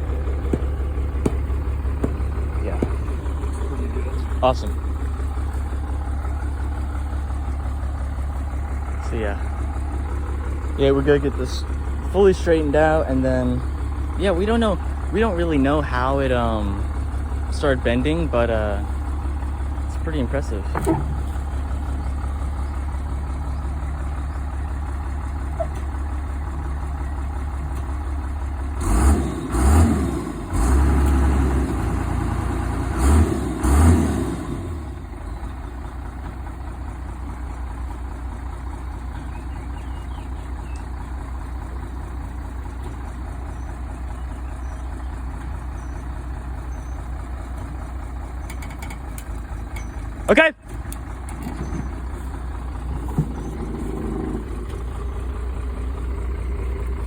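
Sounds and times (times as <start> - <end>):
diesel engine idling and surging: 0.0 - 57.0.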